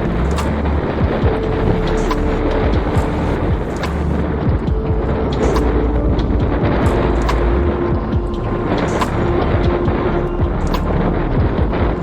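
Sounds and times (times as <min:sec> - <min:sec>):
background music with held notes: 0:00.0 - 0:12.0
wind and water rushing: 0:00.0 - 0:12.0.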